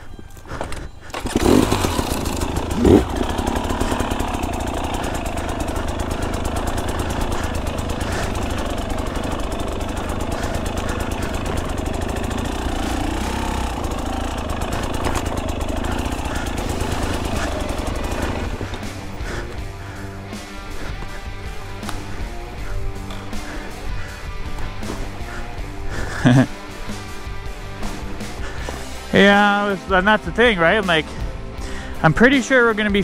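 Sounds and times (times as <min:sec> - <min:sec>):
dirt bike engine starting and idling: 0:00.4 - 0:33.0.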